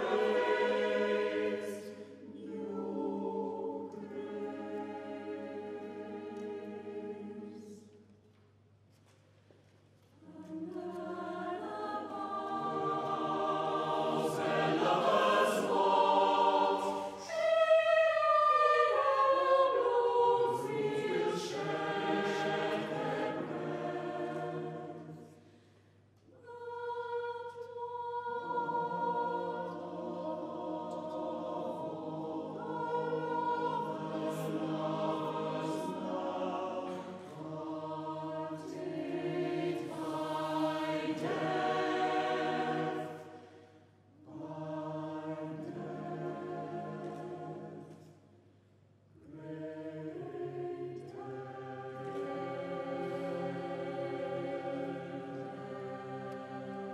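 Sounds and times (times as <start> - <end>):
chamber choir singing: 0.0 - 8.2, 10.2 - 25.7, 26.3 - 48.4, 49.2 - 56.9.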